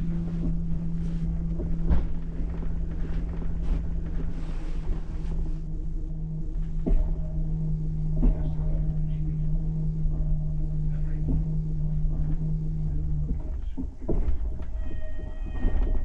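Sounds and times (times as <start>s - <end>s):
carriage equipment hum: 0.0s - 16.0s
low train rumble: 0.0s - 16.0s.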